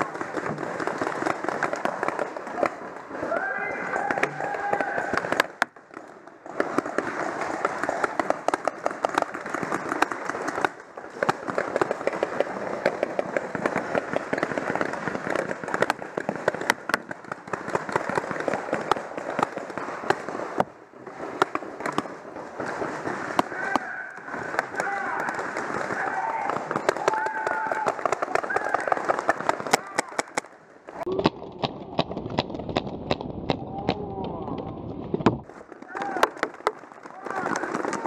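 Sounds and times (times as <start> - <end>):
paintball markers firing: 0.0 - 34.3, 35.1 - 38.0
paintballs striking wood: 0.0 - 38.0.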